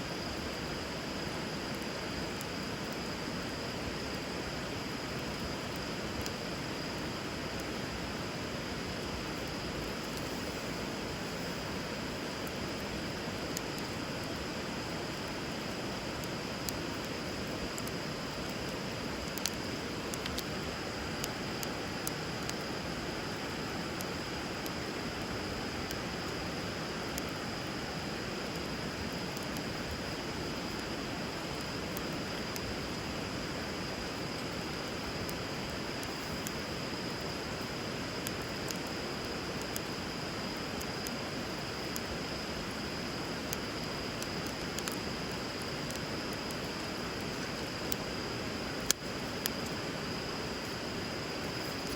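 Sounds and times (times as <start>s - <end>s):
wood fire crackling: 0.1s - 51.9s.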